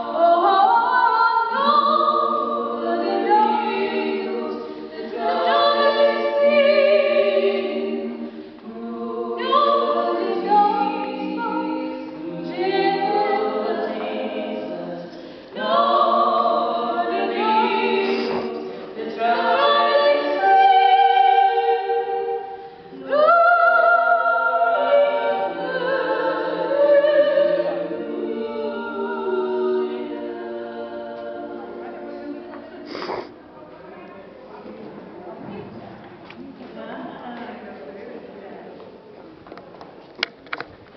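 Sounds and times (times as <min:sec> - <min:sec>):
women singing a cappella: 0:00.0 - 0:33.3, 0:36.4 - 0:39.0.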